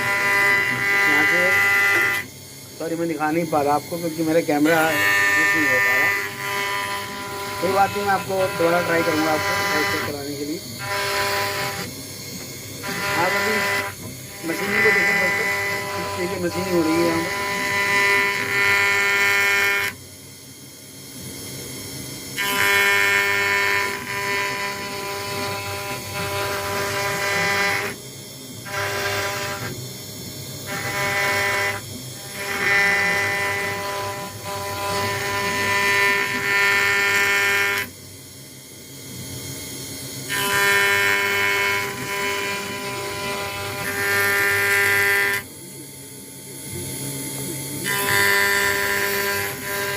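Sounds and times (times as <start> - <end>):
machine hum: 0.0 - 49.9
router cutting whine: 0.0 - 49.9.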